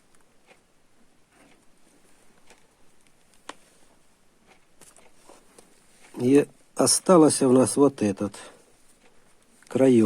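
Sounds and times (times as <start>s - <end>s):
soft rustles and small clicks: 0.0s - 10.0s.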